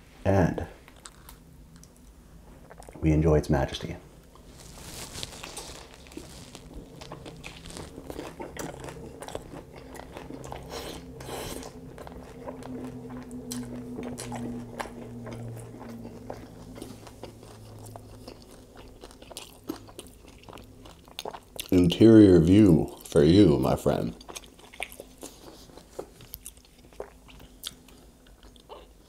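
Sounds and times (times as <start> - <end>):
crunchy chewing: 4.3 - 29.0.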